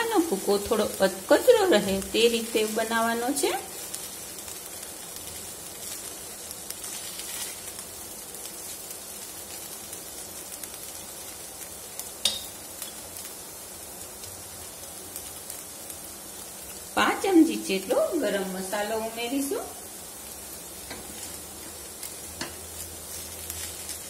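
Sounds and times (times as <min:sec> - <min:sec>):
rice and vegetables sizzling: 0:00.0 - 0:24.0.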